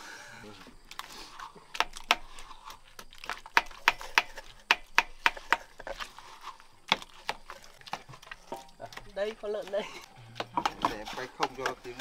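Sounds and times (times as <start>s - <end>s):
fruit mashed in a mortar: 0.8s - 12.0s.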